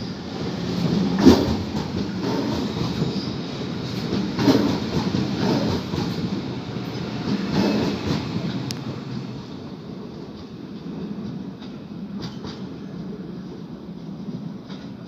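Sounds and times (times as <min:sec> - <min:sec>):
train rumbling on track: 0:00.0 - 0:15.0
train wheels clacking: 0:00.6 - 0:09.3, 0:10.2 - 0:15.0.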